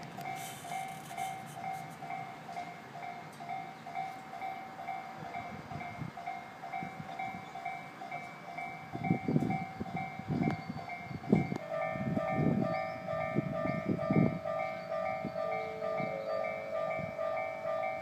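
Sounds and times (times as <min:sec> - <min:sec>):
level-crossing bell dinging: 0:00.2 - 0:18.0.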